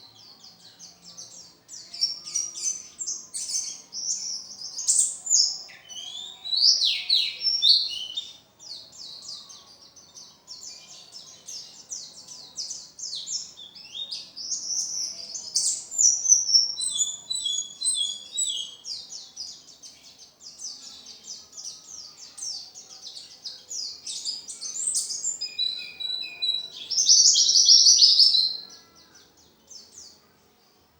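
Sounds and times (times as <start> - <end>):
bird singing chirps and trills: 0.0 - 30.9.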